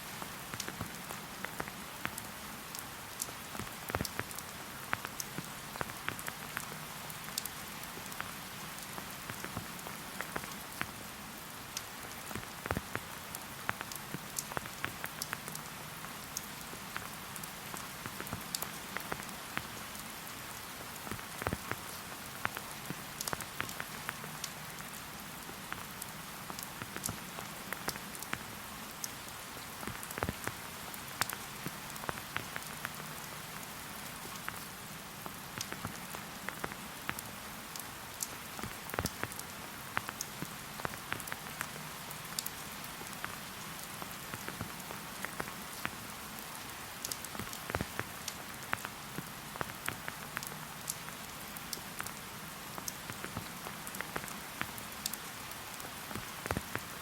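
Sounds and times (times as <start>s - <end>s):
rain patter in a forest: 0.0s - 57.0s.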